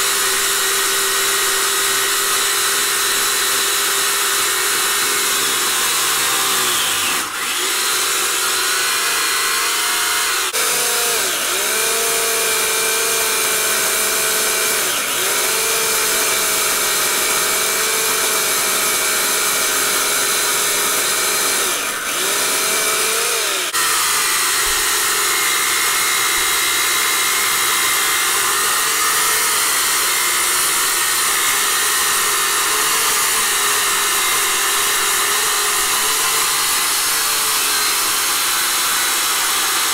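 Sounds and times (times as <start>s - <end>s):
electric chainsaw cutting log: 0.0s - 39.9s.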